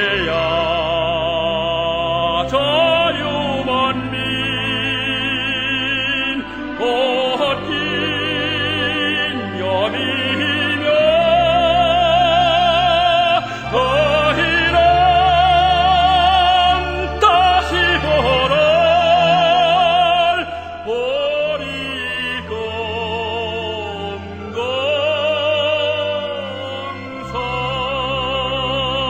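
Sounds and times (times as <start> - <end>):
operatic classical music: 0.0 - 29.0.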